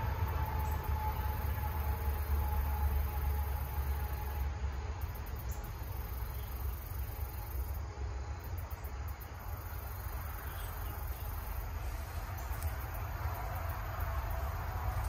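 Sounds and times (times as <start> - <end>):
low steady rumble: 0.0 - 15.0
insects chirring: 0.1 - 15.0.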